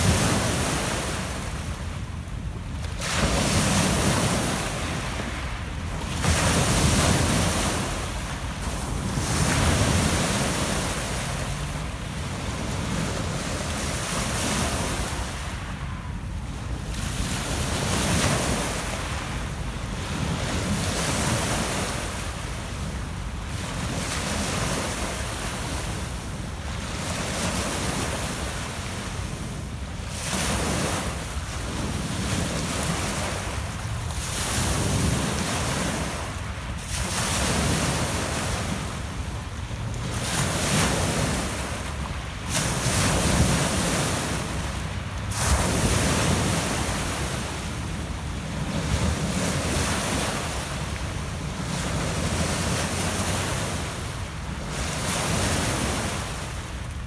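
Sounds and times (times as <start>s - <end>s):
waves washing on pebble shore: 0.0s - 16.1s, 16.9s - 56.8s.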